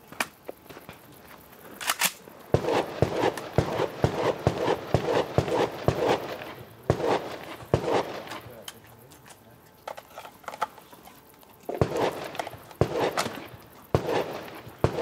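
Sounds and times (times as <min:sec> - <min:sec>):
crunching footsteps: 0:00.0 - 0:15.0.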